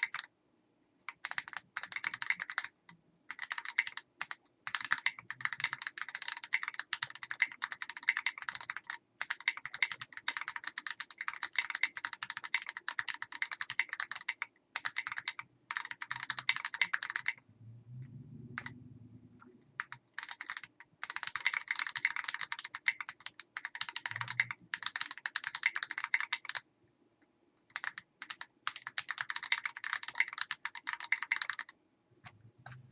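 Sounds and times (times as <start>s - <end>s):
fast mechanical keyboard typing: 0.0s - 0.3s, 1.1s - 17.4s, 19.8s - 26.6s, 27.7s - 31.8s.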